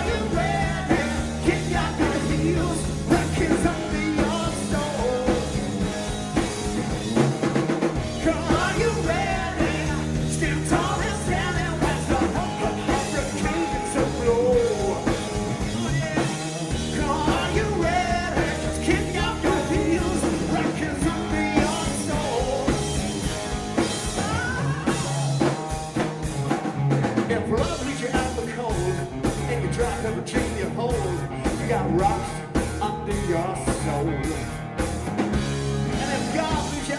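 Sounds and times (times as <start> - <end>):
bass: 0.0 - 36.9
drum kit beat: 0.0 - 36.9
rock band playing: 0.0 - 36.9
sliding lead guitar line: 0.0 - 36.9.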